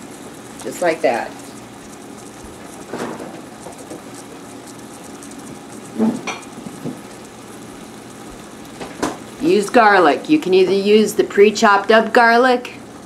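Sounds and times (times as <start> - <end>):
ground beef sizzling: 0.0 - 13.0.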